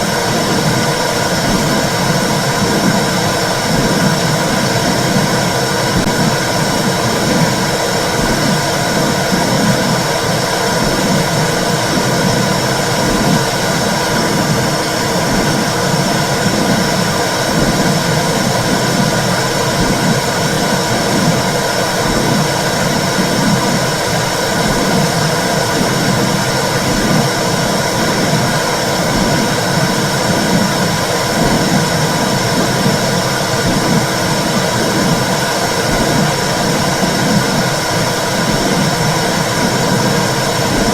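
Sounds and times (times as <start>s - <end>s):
steady whooshing with low pulse: 0.0s - 40.9s.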